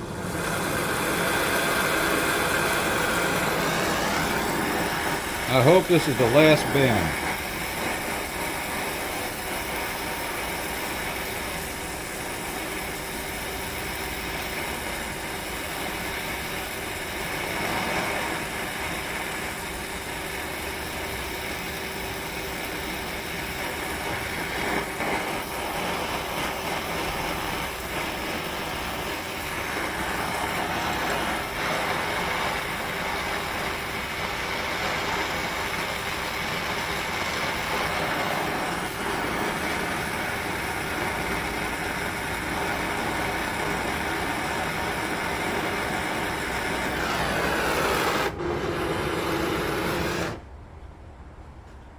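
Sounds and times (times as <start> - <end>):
gas torch flame hissing: 0.0 - 50.6.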